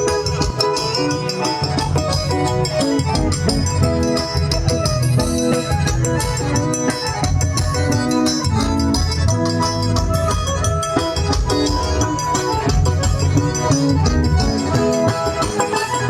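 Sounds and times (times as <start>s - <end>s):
accordion melody: 0.0s - 16.0s
triangle ticking rhythm: 0.0s - 16.0s.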